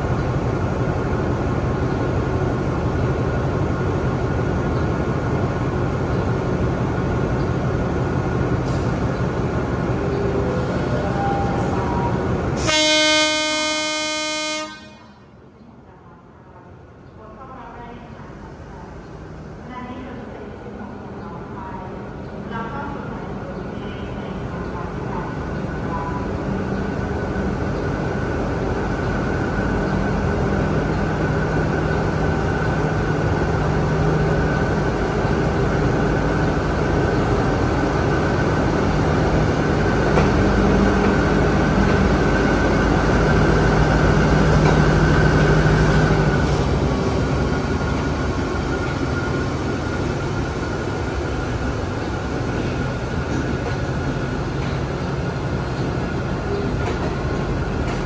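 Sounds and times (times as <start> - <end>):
diesel locomotive engine droning: 0.0 - 58.0.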